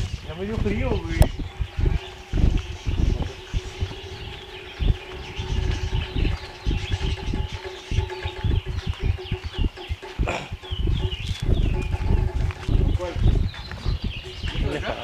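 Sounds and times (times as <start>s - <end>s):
birds chirping: 0.0s - 15.0s
low rumbles: 0.0s - 15.0s.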